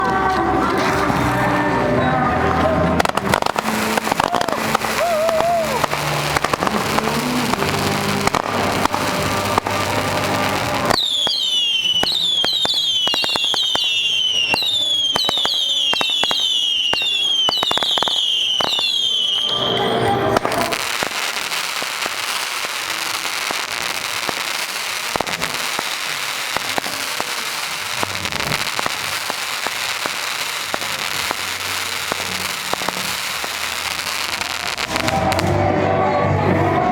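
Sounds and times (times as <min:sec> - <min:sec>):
fireworks cracking: 0:00.0 - 0:36.0
fireworks whistling: 0:02.0 - 0:35.7
dense crackling hiss: 0:02.9 - 0:19.6, 0:20.8 - 0:35.5.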